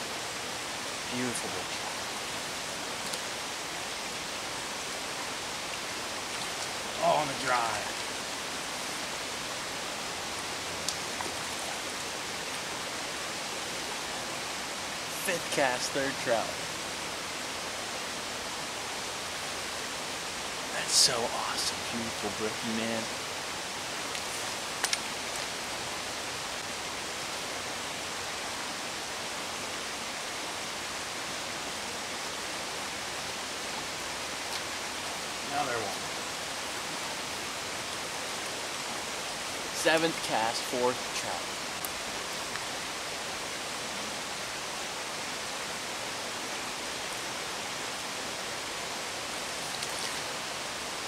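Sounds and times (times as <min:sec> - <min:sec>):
stream water flowing: 0:00.0 - 0:51.0.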